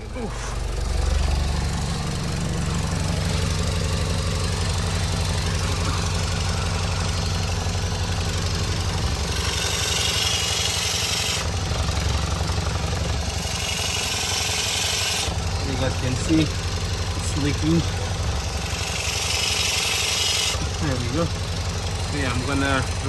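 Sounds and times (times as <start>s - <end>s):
car engine idling: 0.0s - 23.0s
exhaust leak pulsing: 0.0s - 23.0s.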